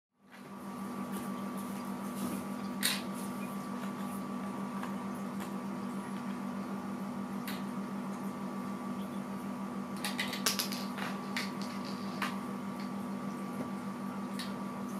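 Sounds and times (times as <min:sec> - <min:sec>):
low electrical hum: 0:00.2 - 0:14.9.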